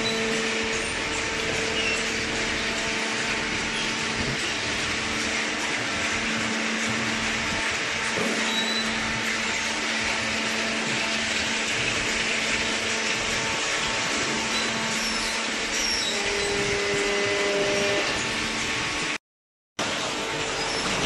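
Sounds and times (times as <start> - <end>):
baler machine running: 0.0 - 19.2.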